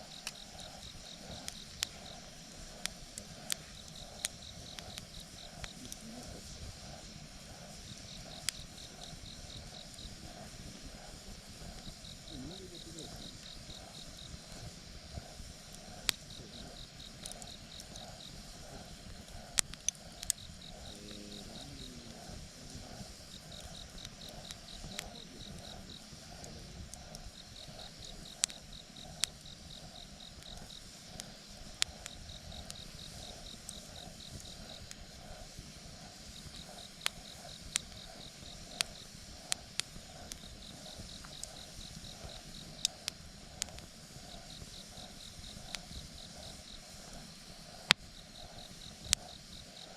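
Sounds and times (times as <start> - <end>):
insects chirping in trills: 0.0 - 49.9
wood fire crackling: 0.0 - 49.9.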